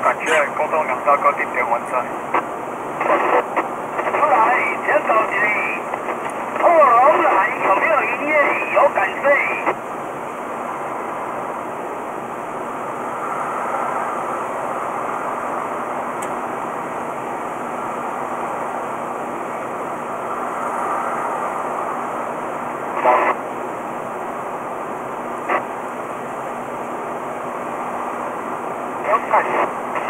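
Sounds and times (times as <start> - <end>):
road and engine noise inside car: 0.0 - 30.0.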